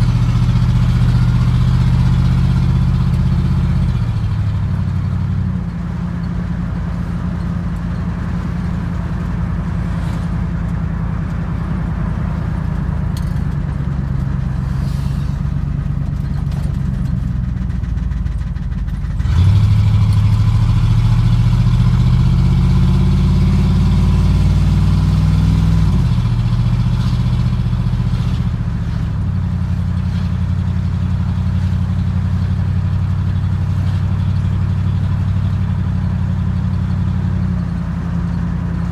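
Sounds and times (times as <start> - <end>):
pickup truck engine accelerating: 0.0 - 38.9.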